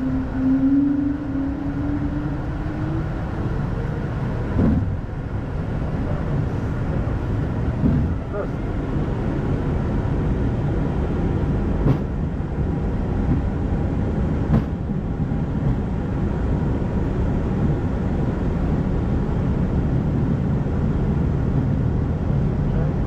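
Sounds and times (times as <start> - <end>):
low rushing rumble of aircraft: 0.0 - 23.0.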